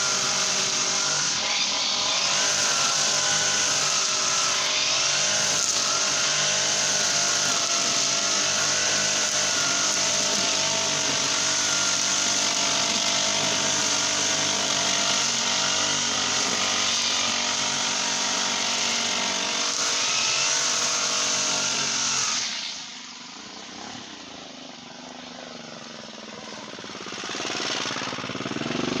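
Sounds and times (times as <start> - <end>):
brush cutter engine revving: 0.0 - 29.0.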